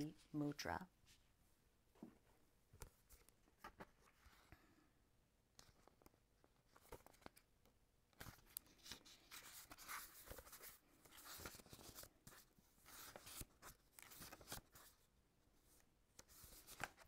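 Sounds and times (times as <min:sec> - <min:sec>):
book pages rustling: 0:02.0 - 0:04.7, 0:05.6 - 0:17.0.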